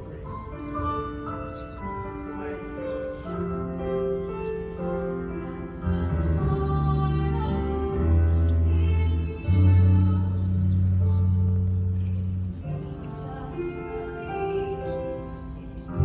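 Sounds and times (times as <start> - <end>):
piano ballad accompaniment: 0.0 - 16.0.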